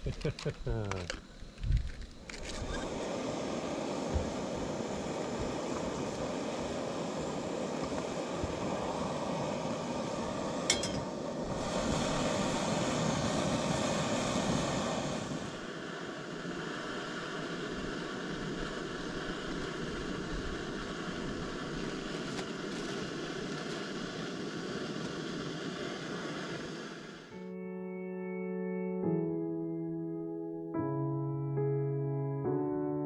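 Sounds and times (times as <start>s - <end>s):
wind blowing: 0.0s - 27.3s.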